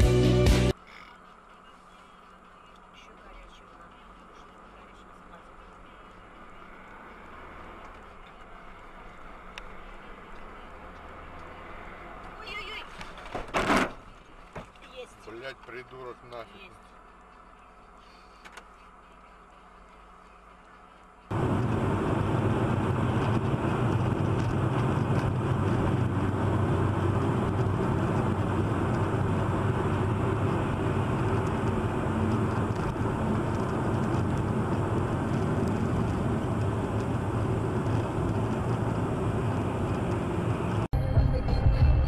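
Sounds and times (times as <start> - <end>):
car engine: 0.0 - 41.0
road noise: 0.0 - 42.0.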